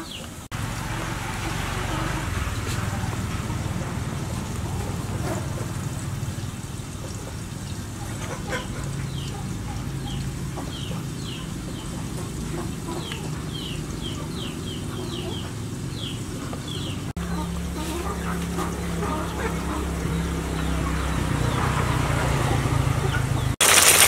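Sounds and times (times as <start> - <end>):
birds chirping: 0.0 - 23.6.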